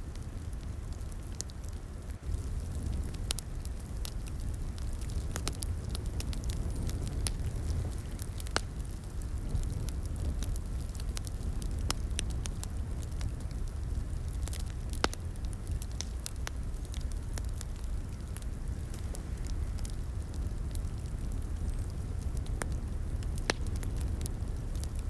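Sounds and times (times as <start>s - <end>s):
low rumble of burning logs: 0.0s - 25.0s
fire pops and snaps: 0.1s - 25.0s.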